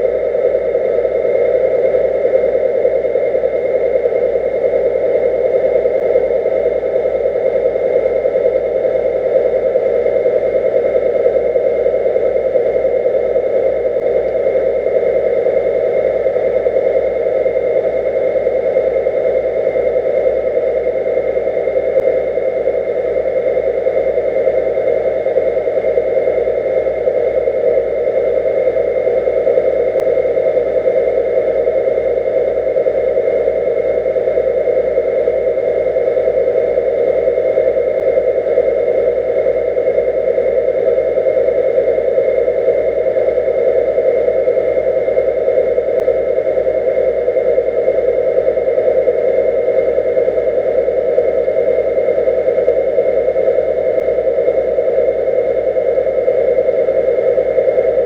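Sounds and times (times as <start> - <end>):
underwater mechanical drone: 0.0 - 58.0.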